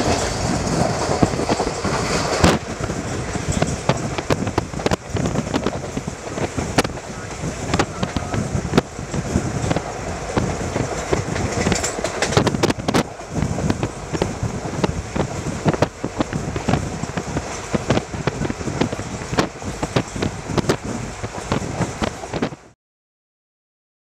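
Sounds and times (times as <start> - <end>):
wheels clattering over rails: 0.0 - 22.7
train rumbling: 0.0 - 22.8.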